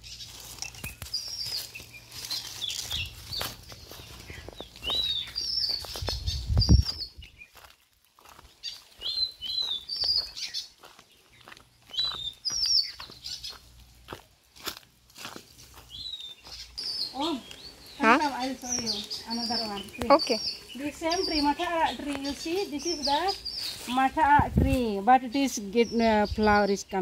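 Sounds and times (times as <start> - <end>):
rustling through vegetation: 0.0 - 27.0
small birds chirping: 0.0 - 27.0
footsteps: 0.2 - 25.0.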